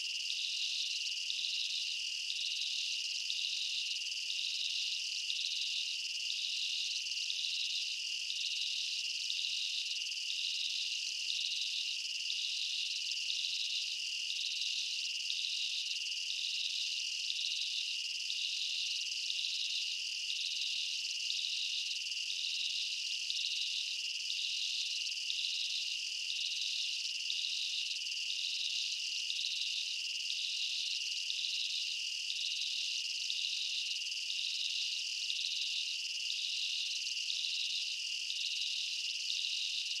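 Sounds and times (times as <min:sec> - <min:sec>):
insect chorus trilling: 0:00.0 - 0:40.0.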